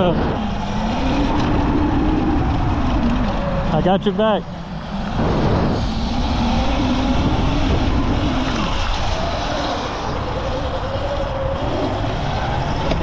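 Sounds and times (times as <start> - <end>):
electric dirt bike motor whine: 0.0 - 13.0
wind buffeting microphone: 0.0 - 13.0.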